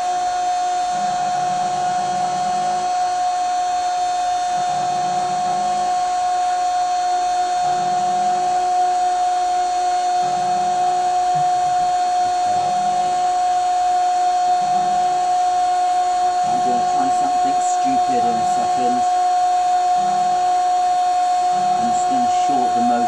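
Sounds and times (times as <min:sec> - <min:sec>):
drill motor high-pitched whine: 0:00.0 - 0:23.0.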